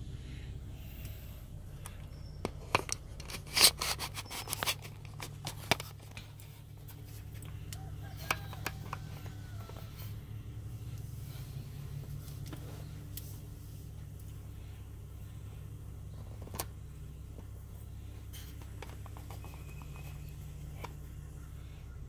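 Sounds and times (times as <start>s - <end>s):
low car cabin hum: 0.0s - 22.0s.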